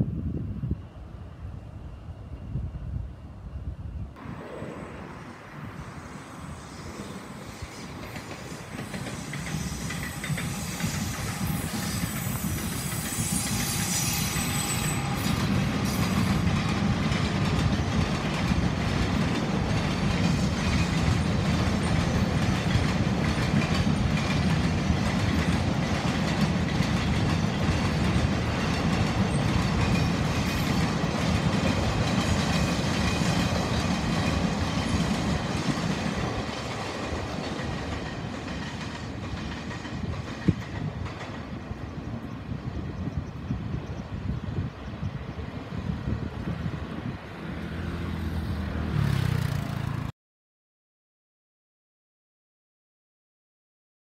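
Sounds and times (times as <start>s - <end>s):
freight train rolling past: 0.0s - 50.1s.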